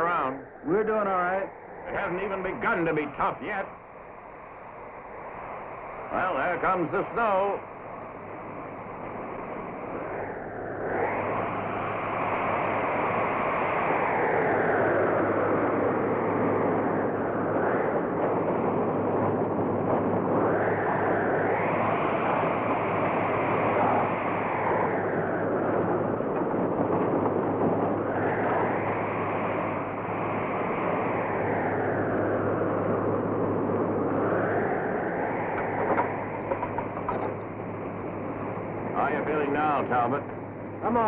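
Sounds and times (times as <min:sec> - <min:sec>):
low hum: 0:00.0 - 0:41.0
wind howling in gusts: 0:00.0 - 0:41.0.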